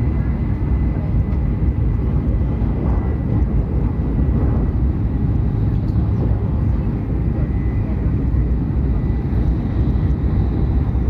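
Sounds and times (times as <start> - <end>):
train cabin rumble: 0.0 - 11.0.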